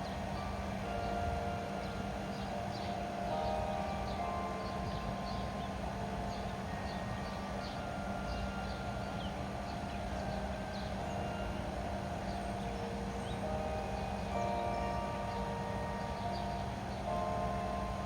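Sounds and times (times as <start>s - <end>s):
church bells ringing: 0.0s - 18.0s
small birds chirping: 0.0s - 18.0s.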